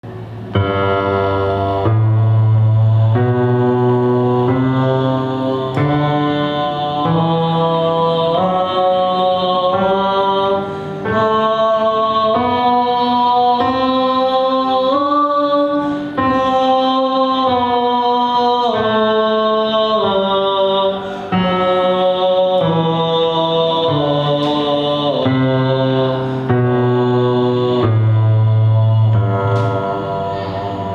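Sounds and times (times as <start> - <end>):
bass voice singing held notes: 0.0 - 30.9.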